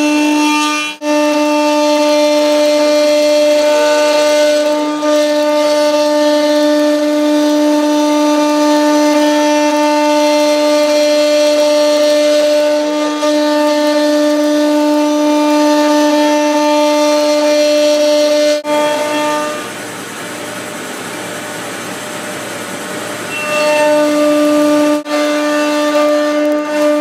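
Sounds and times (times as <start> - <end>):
spindle whine milling steel: 0.0 - 27.0.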